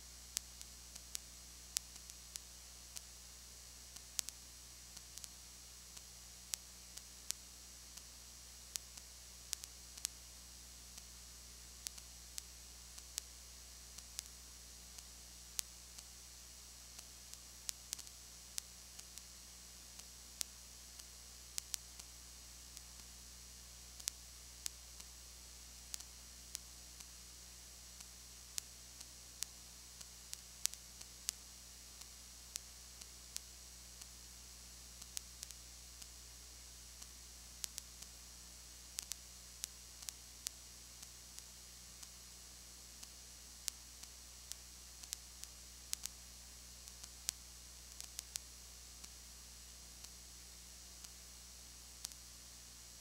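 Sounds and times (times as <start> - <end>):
low electrical hum: 0.0 - 53.0
sharp clicks and crackles: 0.2 - 3.2, 3.9 - 23.2, 24.0 - 25.2, 25.8 - 34.2, 34.9 - 36.3, 38.9 - 46.2, 46.8 - 49.2.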